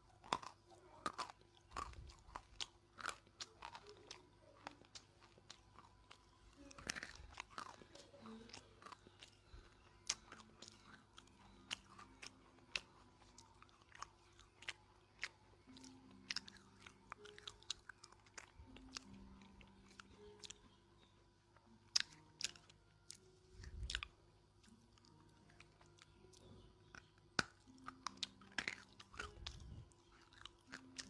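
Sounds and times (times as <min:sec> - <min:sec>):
person chewing crunchy clay: 0:00.0 - 0:31.0.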